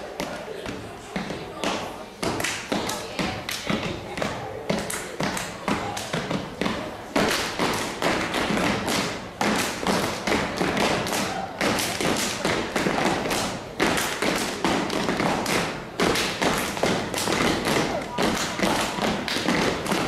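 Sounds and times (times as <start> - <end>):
rhythmic foot stomps on stage: 0.2 - 20.0
hand claps: 1.6 - 6.3, 7.2 - 20.0.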